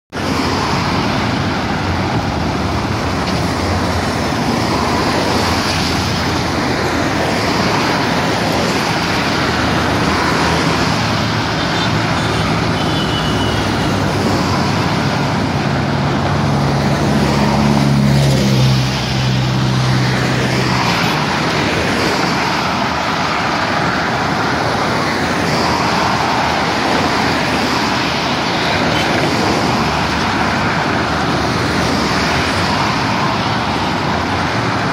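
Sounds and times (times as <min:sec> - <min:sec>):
car road noise: 0:00.1 - 0:34.9.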